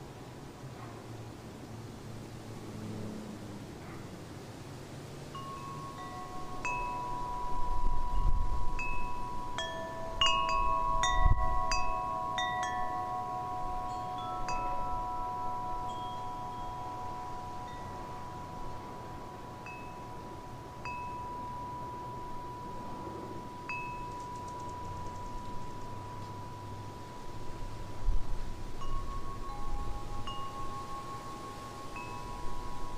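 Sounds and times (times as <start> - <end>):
wind chimes ringing: 5.3 - 32.9.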